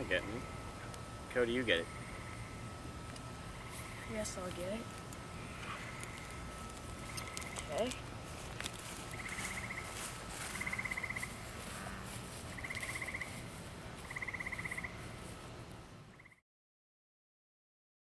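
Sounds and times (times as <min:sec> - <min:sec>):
animal pulsed trill: 0:00.0 - 0:08.0, 0:09.0 - 0:15.2, 0:16.1 - 0:16.4.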